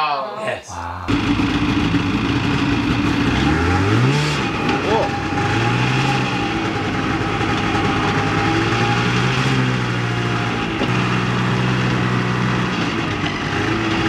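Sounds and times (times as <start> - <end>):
snowmobile engine running: 1.1 - 14.0.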